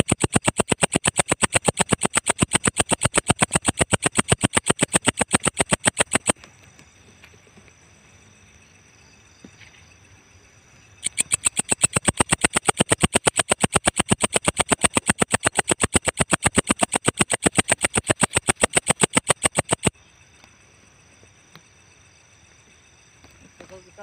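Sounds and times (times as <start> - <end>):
insect singing in dry pulses: 0.0 - 24.0.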